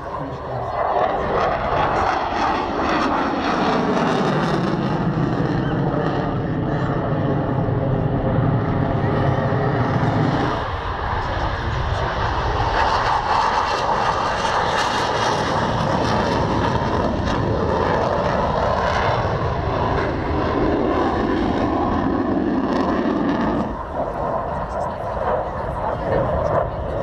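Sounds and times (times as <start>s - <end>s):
aircraft engine flying over: 0.0s - 27.0s.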